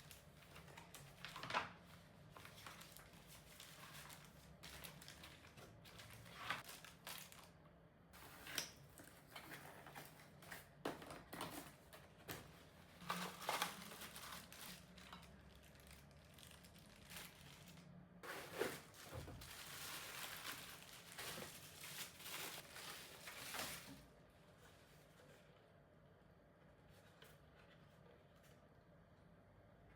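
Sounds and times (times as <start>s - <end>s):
plastic wrap and cardboard crinkling: 0.0s - 7.6s, 8.2s - 25.5s.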